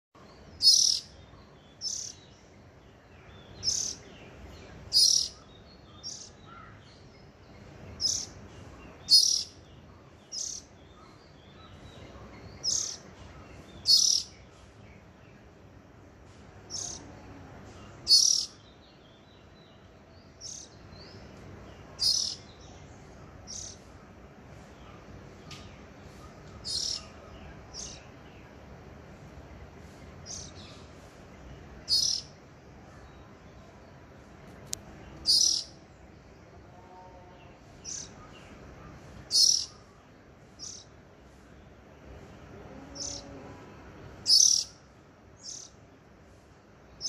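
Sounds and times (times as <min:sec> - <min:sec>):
small bird chirping: 0:00.2 - 0:15.4, 0:16.6 - 0:28.6, 0:29.8 - 0:33.7, 0:34.7 - 0:35.9, 0:37.2 - 0:41.6, 0:42.4 - 0:43.5, 0:44.2 - 0:46.0.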